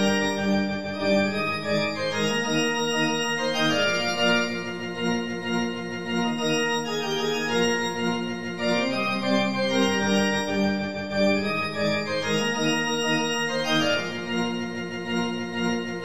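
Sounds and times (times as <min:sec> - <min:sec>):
organ playing chords: 0:00.0 - 0:16.0.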